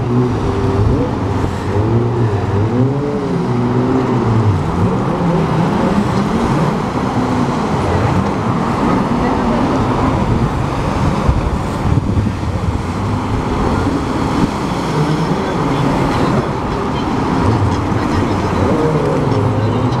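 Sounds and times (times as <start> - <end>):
jet ski engines: 0.0 - 20.0.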